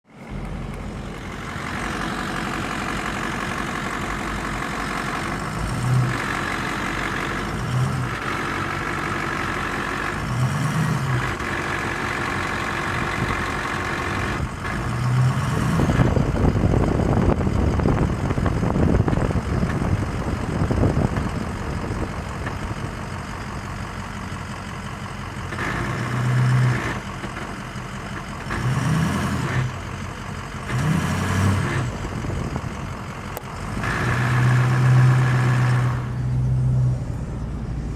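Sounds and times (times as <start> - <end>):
diesel engine running: 0.0 - 37.9
engine grinding noise: 0.0 - 37.9.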